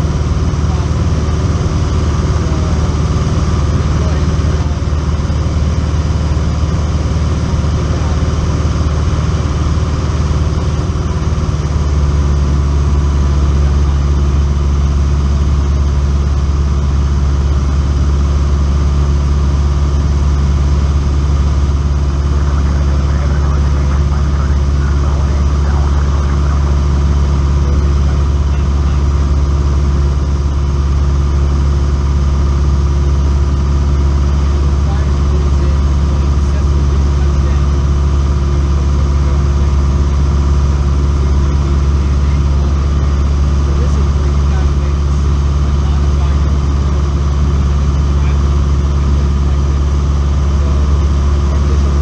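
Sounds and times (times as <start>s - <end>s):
propeller airplane engine drone: 0.0s - 52.0s.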